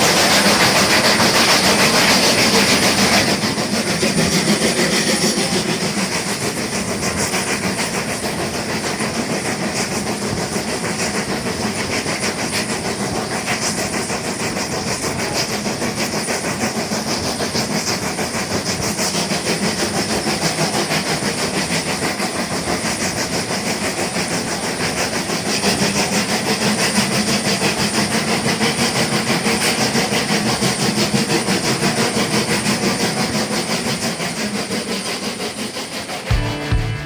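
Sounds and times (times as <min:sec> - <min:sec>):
steam hissing: 0:00.0 - 0:37.0
steam locomotive chuffing: 0:00.0 - 0:37.0.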